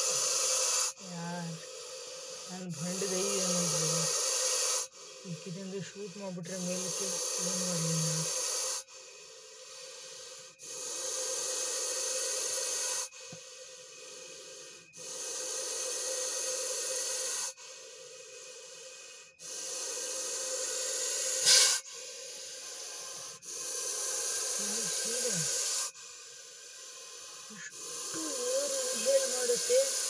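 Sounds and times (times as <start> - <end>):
snake hissing: 0.0 - 30.0.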